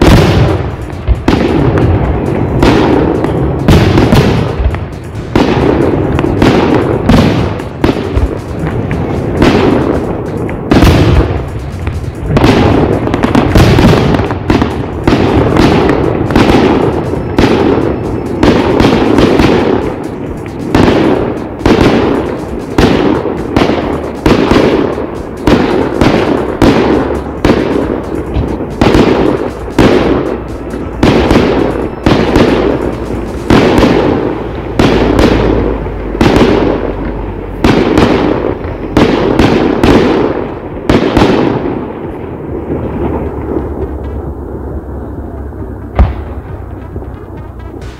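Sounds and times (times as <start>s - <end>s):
fireworks shells bursting: 0.0s - 47.9s.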